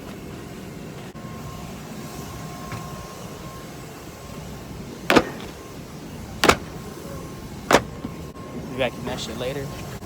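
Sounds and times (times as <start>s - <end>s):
car wash background noise: 0.0s - 10.0s.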